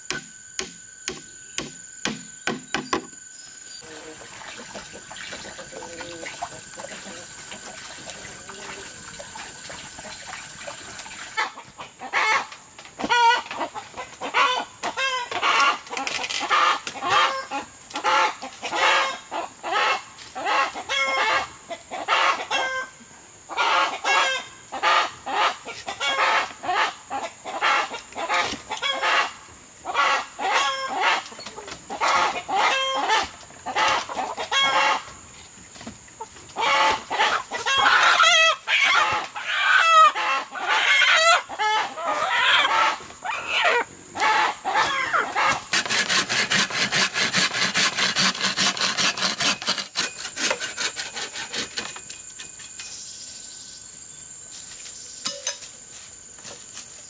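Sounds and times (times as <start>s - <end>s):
chickens clucking: 3.8s - 49.9s.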